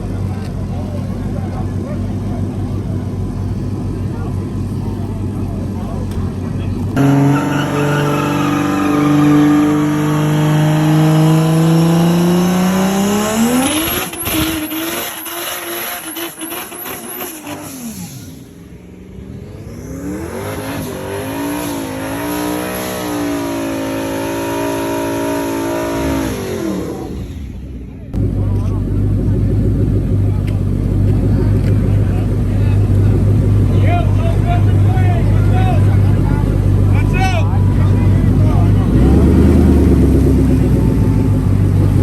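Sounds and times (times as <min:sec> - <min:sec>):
exhaust crackling: 0:00.0 - 0:22.4, 0:26.2 - 0:42.0
car engine accelerating: 0:00.0 - 0:42.0.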